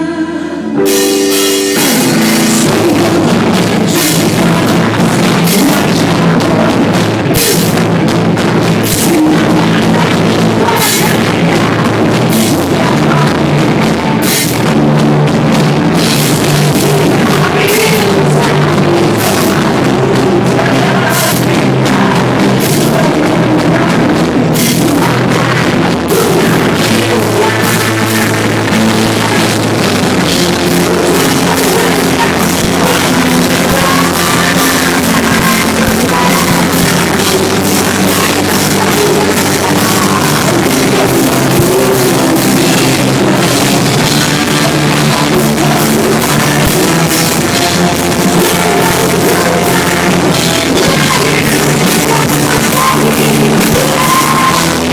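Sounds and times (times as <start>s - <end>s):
rock band playing live: 0.7s - 54.9s.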